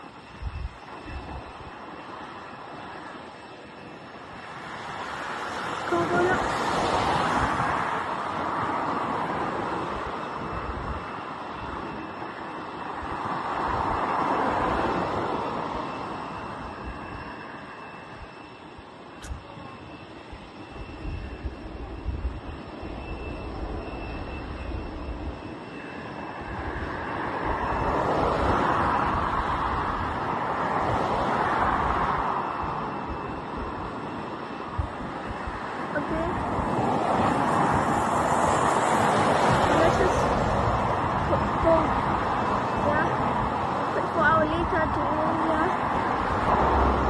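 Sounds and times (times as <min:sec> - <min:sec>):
faint high whine: 0:00.0 - 0:47.0
jet engines roaring: 0:00.0 - 0:47.0.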